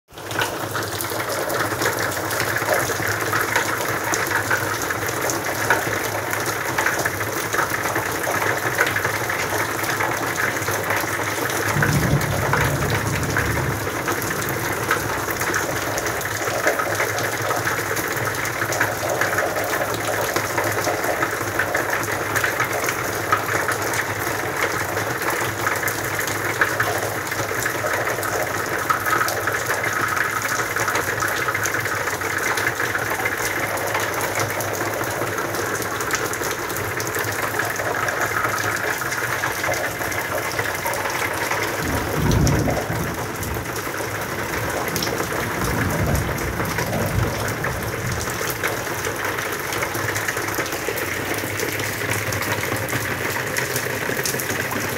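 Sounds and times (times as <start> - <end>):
steady rain falling: 0.1 - 54.9.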